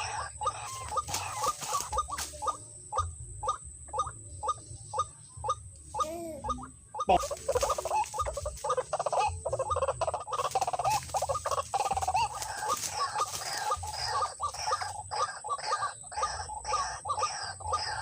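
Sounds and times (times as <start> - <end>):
waterhens croaking: 0.0 - 18.0.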